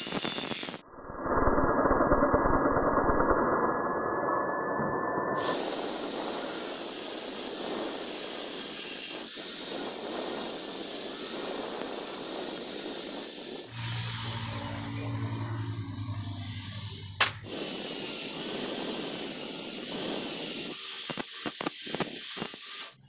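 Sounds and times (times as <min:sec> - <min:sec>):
angle grinder grinding steel: 0:00.0 - 0:00.8, 0:05.3 - 0:23.0.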